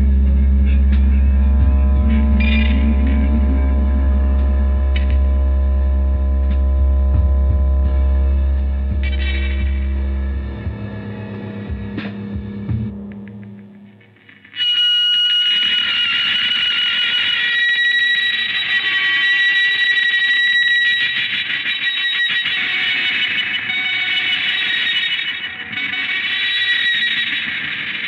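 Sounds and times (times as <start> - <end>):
shrill guitar feedback: 0.0 - 28.0.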